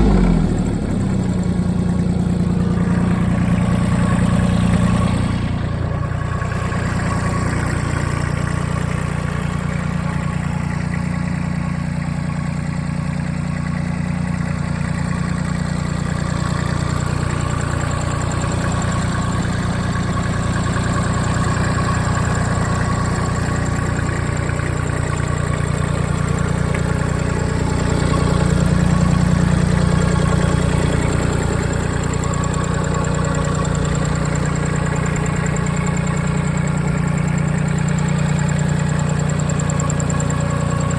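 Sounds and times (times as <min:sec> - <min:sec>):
diesel tractor engine idling: 0:00.0 - 0:40.9.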